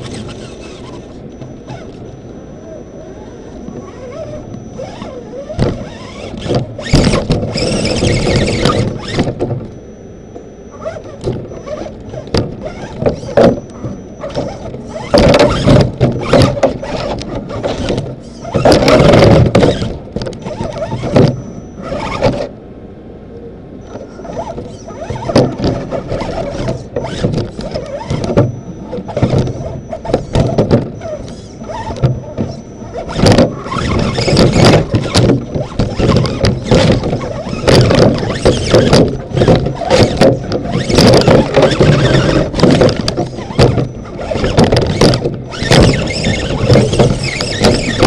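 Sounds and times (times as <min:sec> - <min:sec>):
body and chassis clattering: 0:00.0 - 0:02.2, 0:03.2 - 0:22.6, 0:23.8 - 0:48.0
electric drivetrain whine: 0:00.0 - 0:48.0.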